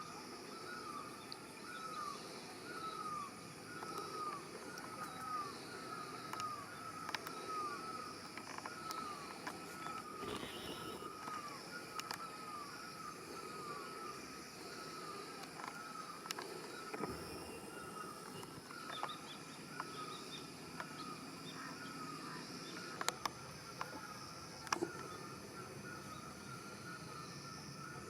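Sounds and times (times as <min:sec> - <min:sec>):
background hiss: 0:00.0 - 0:28.0.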